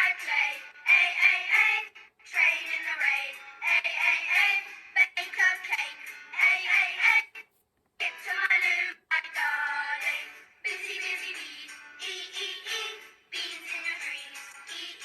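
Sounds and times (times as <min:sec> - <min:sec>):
children's song with music: 0:00.0 - 0:15.0.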